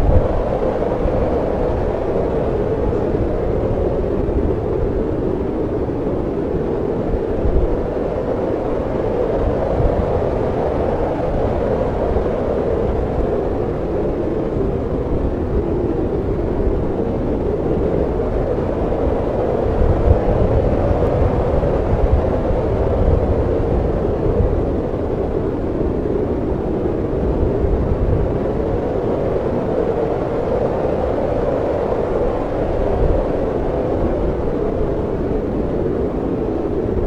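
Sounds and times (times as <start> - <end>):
snowstorm wind blowing: 0.0 - 37.0.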